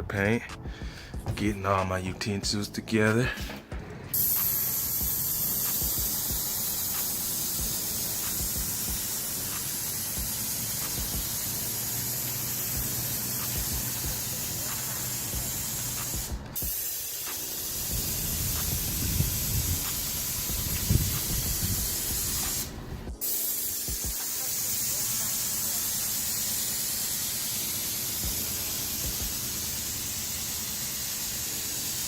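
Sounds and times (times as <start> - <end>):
paint sprayer hissing: 3.5 - 32.0.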